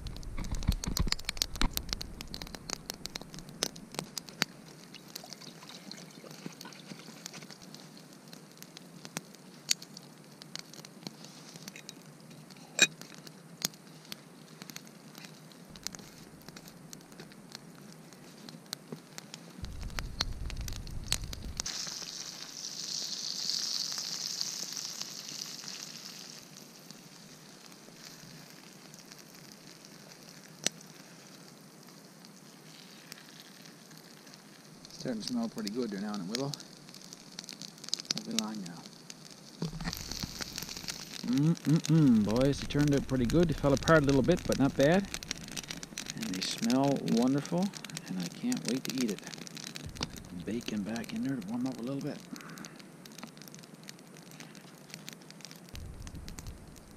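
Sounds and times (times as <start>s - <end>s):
batter frying hiss: 0.0s - 56.9s
campfire crackling and popping: 0.0s - 56.9s.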